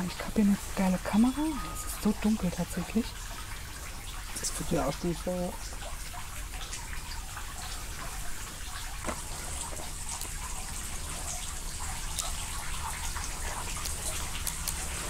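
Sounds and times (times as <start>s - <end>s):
running water trickling: 0.0s - 15.0s
water drips ticking: 0.0s - 15.0s.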